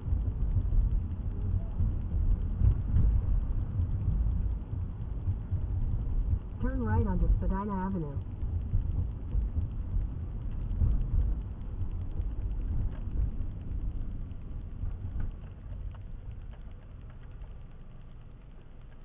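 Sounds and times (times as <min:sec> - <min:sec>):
car interior driving rumble: 0:00.0 - 0:19.0.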